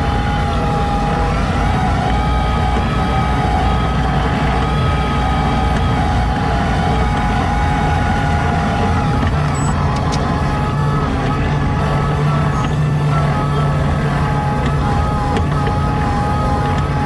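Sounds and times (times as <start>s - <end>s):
heavy diesel machine rumbling: 0.0s - 17.0s
high whine: 0.0s - 17.0s.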